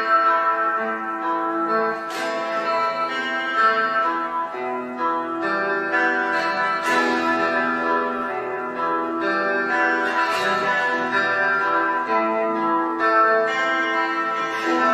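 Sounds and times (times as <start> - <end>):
electric guitar melody: 0.0 - 14.9
strummed guitar chord: 0.0 - 14.9.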